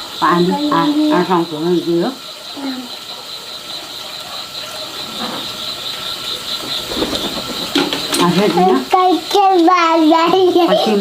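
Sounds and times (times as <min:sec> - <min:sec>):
insects pulsing rattle: 0:00.0 - 0:11.0.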